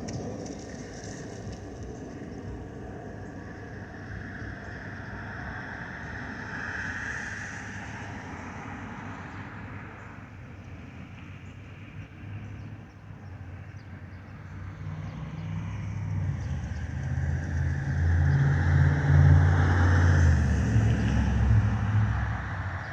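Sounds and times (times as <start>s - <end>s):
jet engine rumble: 0.0s - 12.4s, 14.5s - 22.9s
jet engine whine: 0.0s - 13.5s, 14.5s - 22.9s.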